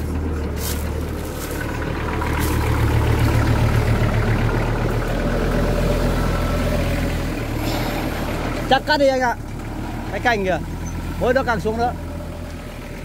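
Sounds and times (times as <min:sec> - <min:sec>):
tractor diesel engine straining: 0:00.0 - 0:13.0.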